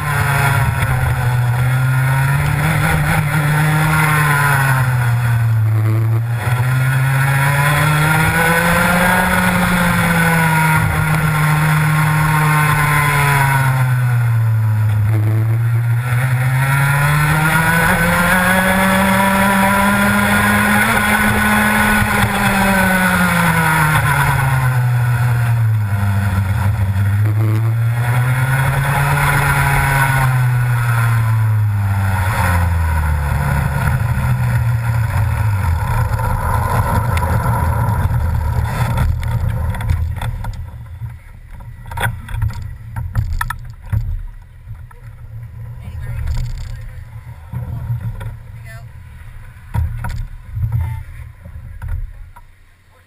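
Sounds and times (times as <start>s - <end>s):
kart engine at racing speed: 0.0s - 53.0s.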